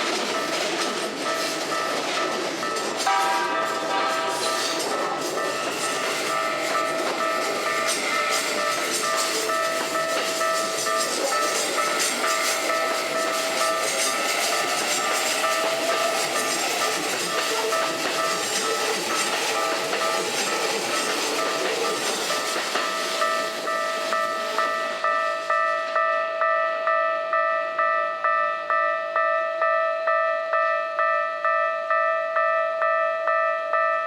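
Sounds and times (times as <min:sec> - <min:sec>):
crossing warning bell ringing: 0:00.0 - 0:34.0
train wheels on rails: 0:00.0 - 0:34.0.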